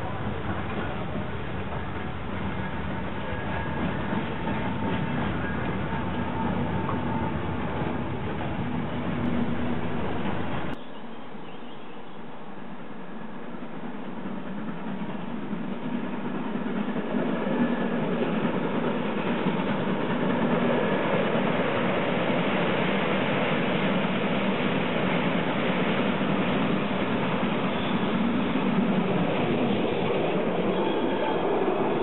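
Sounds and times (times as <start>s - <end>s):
steam locomotive running: 0.0s - 10.8s, 12.3s - 32.0s.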